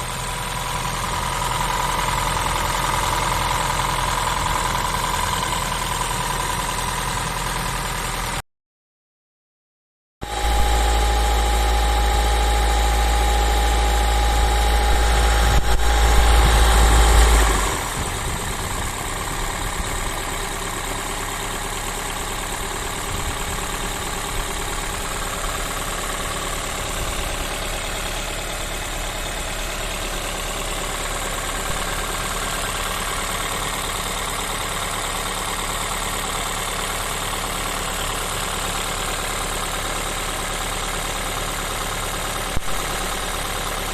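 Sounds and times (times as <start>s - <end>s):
car engine running with whine: 0.0s - 8.4s, 10.2s - 43.9s.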